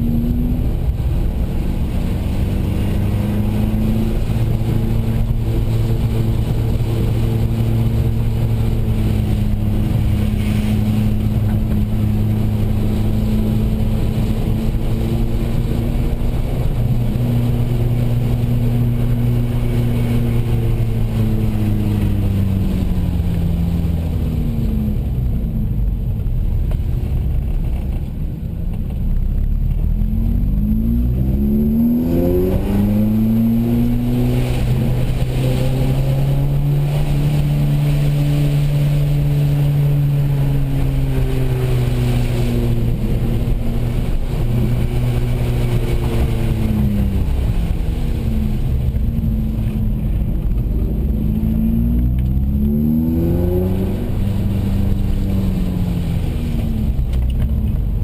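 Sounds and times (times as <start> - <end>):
car engine revving: 0.0 - 58.0
low road rumble: 0.0 - 58.0.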